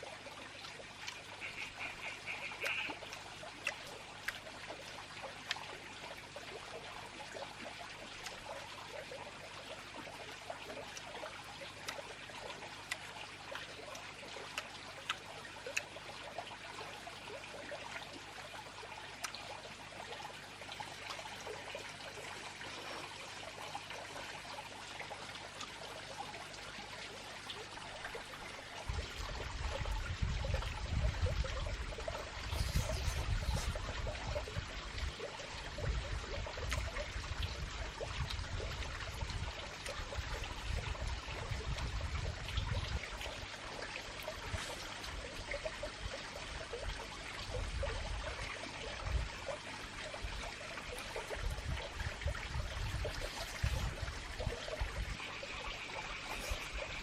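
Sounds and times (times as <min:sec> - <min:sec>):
water running and trickling: 0:00.0 - 0:57.0.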